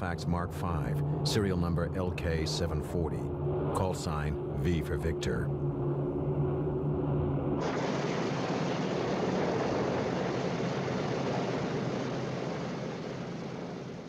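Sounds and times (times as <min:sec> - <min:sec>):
propeller aircraft engine drone: 0:00.0 - 0:14.0
rushing engines and airflow: 0:00.0 - 0:14.0.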